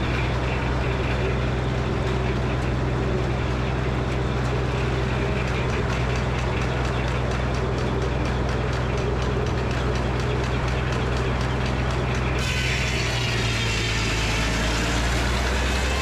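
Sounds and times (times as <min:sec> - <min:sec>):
sawmill mechanical drone: 0:00.0 - 0:16.0.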